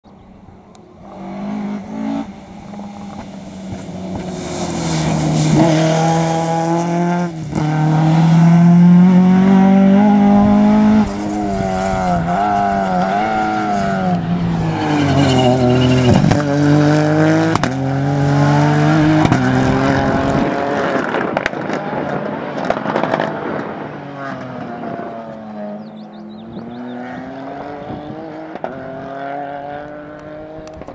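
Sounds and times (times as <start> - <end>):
rally car engines revving: 0.8 - 30.9.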